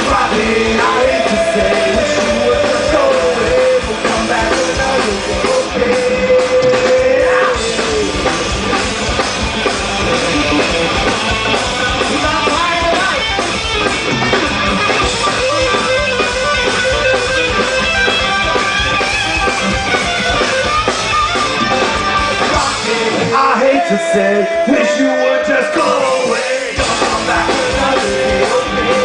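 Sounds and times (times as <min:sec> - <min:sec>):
drum kit: 0:00.0 - 0:29.0
electric guitars: 0:00.0 - 0:29.0.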